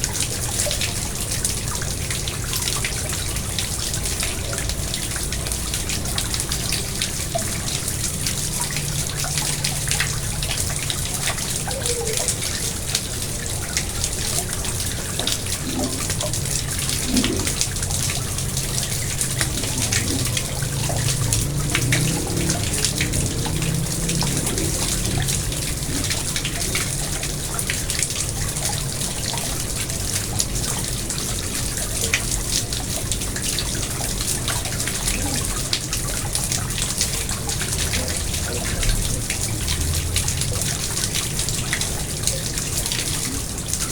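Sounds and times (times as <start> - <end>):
pond water trickling and splashing: 0.0 - 43.9.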